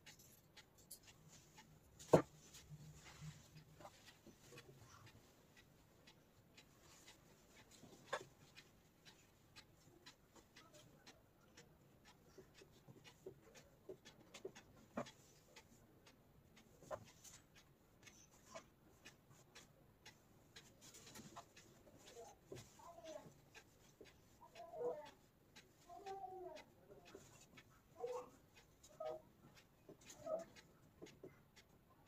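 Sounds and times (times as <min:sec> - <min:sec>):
light clicks and fabric handling: 0:00.0 - 0:32.0.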